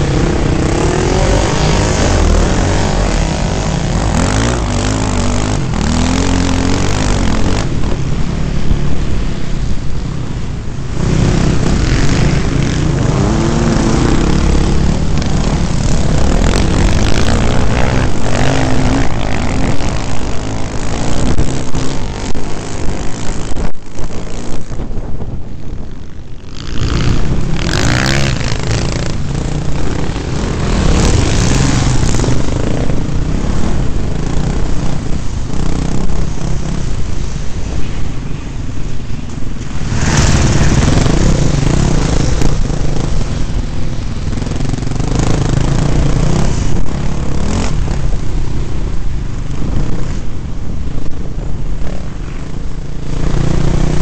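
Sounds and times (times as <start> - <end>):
dirt bike engine revving: 0.0 - 9.7, 10.8 - 25.1, 26.4 - 38.4, 39.4 - 48.8, 51.8 - 54.0.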